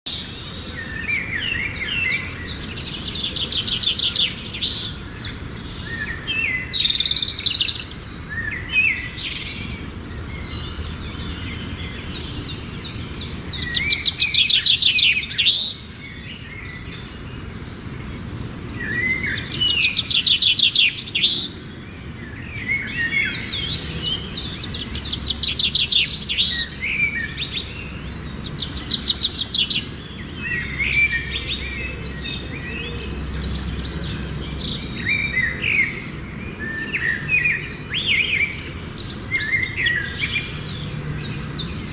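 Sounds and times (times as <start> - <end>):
faint outdoor background: 0.0 - 41.9
songbirds singing and trilling: 0.0 - 41.9.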